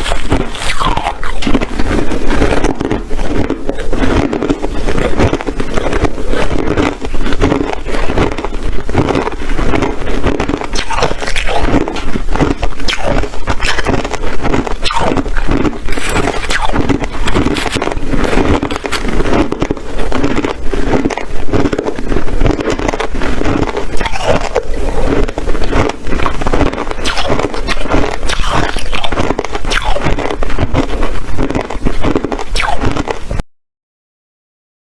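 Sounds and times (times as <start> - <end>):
person chewing ice crunching: 0.0 - 33.4.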